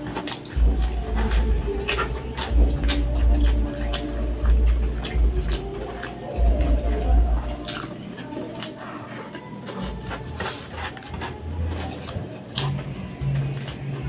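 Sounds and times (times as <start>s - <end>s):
closed-mouth humming: 0.0s - 14.0s
person chewing with lip smacks: 0.0s - 14.0s.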